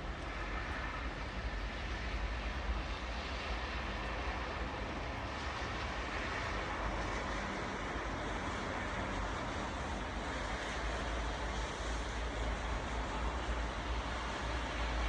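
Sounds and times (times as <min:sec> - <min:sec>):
constant low rumble: 0:00.0 - 0:15.0
steady rain falling: 0:00.0 - 0:15.0.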